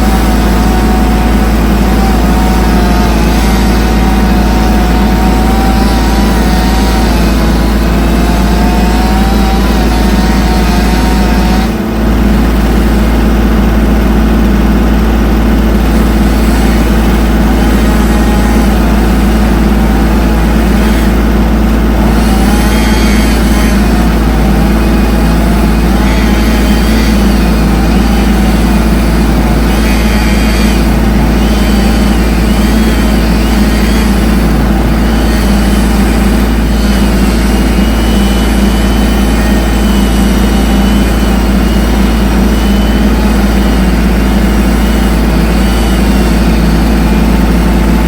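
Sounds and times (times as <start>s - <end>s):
engine running loudly: 0.0s - 48.0s.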